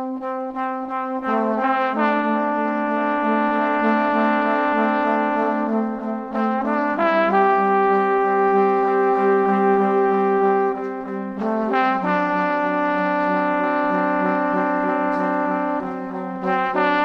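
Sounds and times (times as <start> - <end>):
music of long held notes: 0.0 - 17.0.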